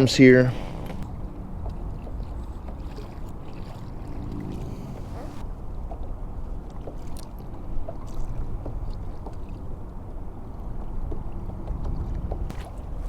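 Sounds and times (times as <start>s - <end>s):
low wind: 0.0s - 13.0s
water rumble around kayak: 0.0s - 13.0s.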